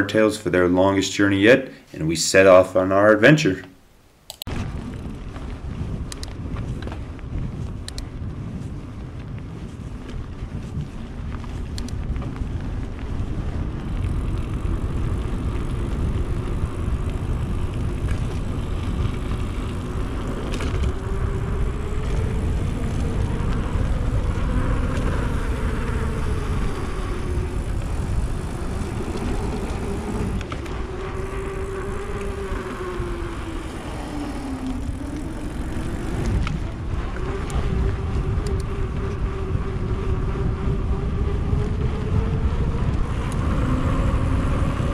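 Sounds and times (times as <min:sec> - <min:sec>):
steady hum: 0:01.6 - 0:44.9
wind buffeting microphone: 0:04.5 - 0:44.9.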